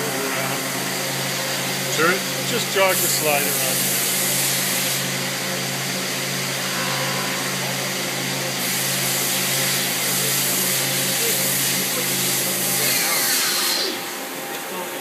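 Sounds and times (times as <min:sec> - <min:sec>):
lathe humming and hissing: 0:00.0 - 0:15.0.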